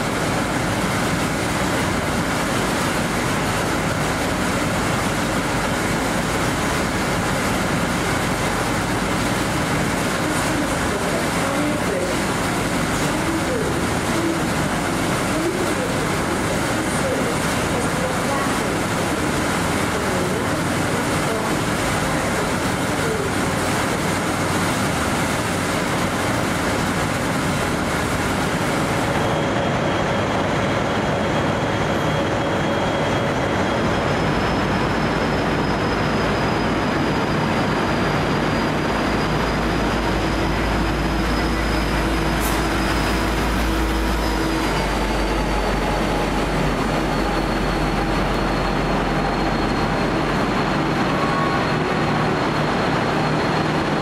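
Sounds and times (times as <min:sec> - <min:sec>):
locomotive engine running: 0:00.0 - 0:54.0.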